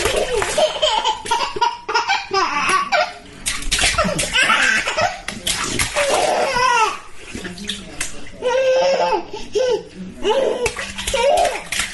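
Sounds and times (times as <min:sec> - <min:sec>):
water splashing in tub: 0:00.0 - 0:08.8, 0:10.2 - 0:11.9.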